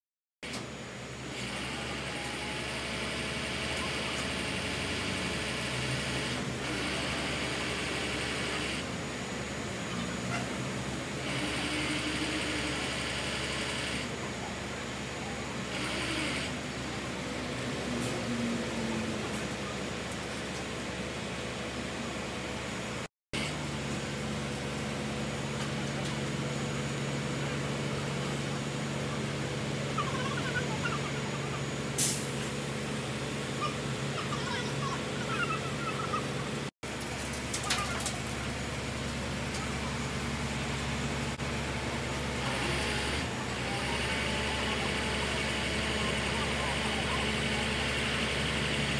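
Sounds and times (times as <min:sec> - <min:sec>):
crane diesel engine running: 0:00.4 - 0:48.9.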